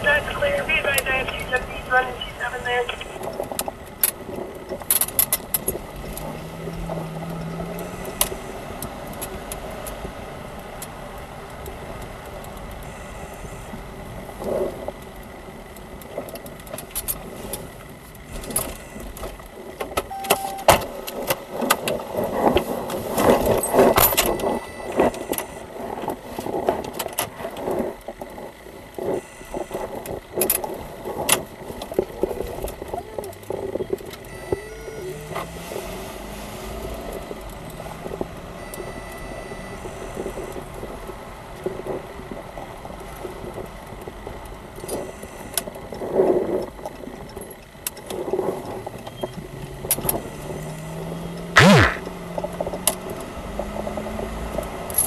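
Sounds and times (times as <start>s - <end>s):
car engine hum: 0.0s - 20.2s, 20.8s - 45.5s.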